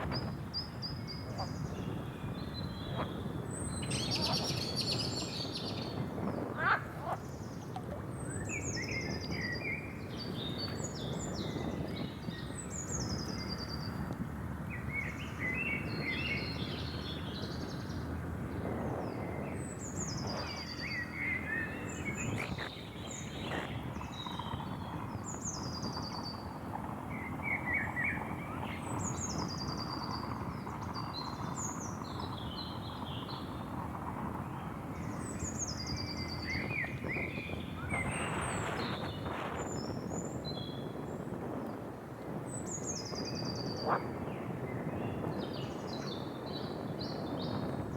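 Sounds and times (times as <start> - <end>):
birds chirping: 0.1 - 14.1, 14.7 - 41.2.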